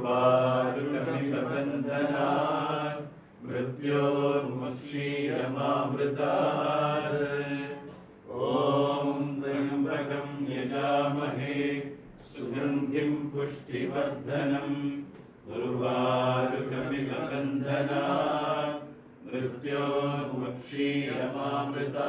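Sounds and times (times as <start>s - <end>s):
person reciting devotional chant: 0.0s - 22.0s.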